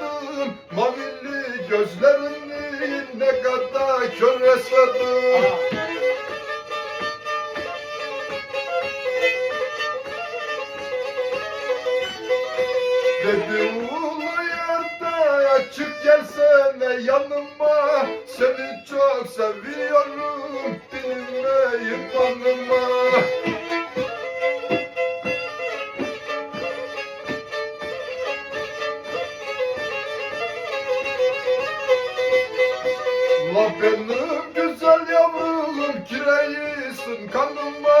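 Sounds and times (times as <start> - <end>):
bowed string instrument: 0.0 - 38.0
steady tapping beat: 0.0 - 38.0
light knocks: 0.5 - 34.6.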